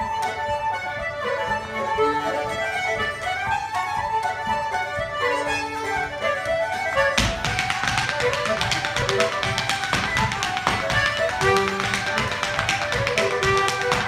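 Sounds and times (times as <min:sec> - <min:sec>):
fiddle dance tune: 0:00.0 - 0:14.0.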